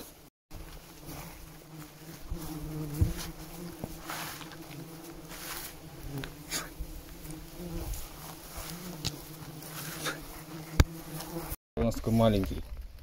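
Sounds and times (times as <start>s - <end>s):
insect buzzing: 0.0s - 11.6s.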